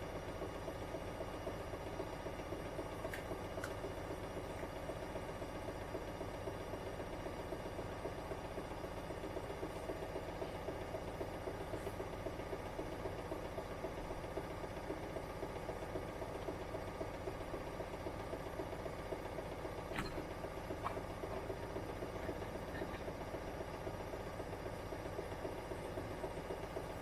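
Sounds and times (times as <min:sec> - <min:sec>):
washing machine motor humming: 0:00.0 - 0:27.0.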